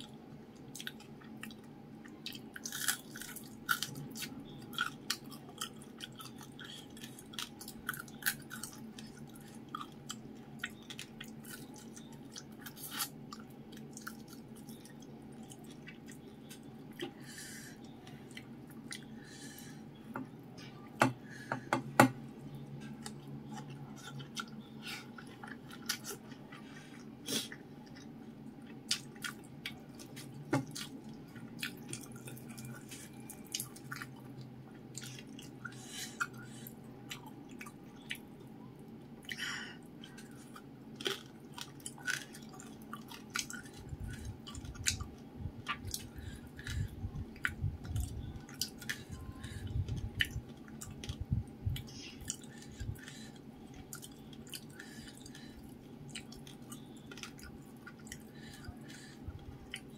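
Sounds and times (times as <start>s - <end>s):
chewing and lip smacking: 0.0s - 17.2s, 17.8s - 19.1s, 22.5s - 59.9s
low steady hum: 0.0s - 59.9s.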